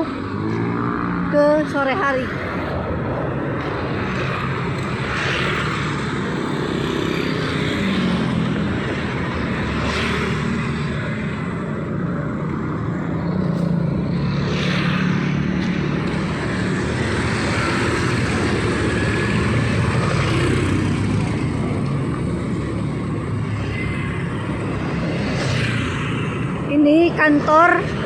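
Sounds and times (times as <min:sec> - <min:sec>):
traffic engine rumble: 0:00.0 - 0:28.0.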